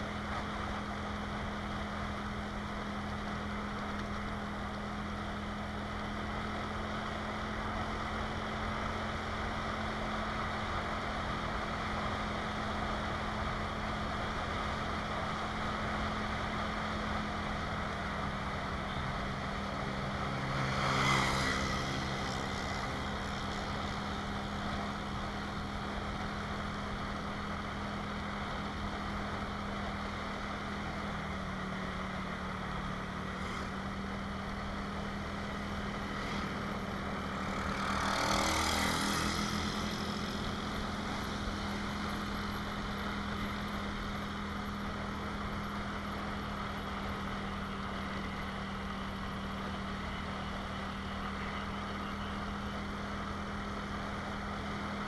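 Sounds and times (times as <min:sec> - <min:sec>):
wind and road rush: 0:00.0 - 0:51.8
motorcycle engine cruising: 0:00.0 - 0:55.0.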